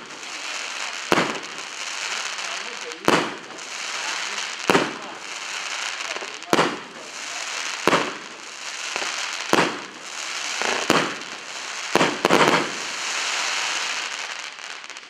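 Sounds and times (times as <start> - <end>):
crackling hiss of burning stars: 0.0 - 15.0
firework bangs: 0.0 - 15.0.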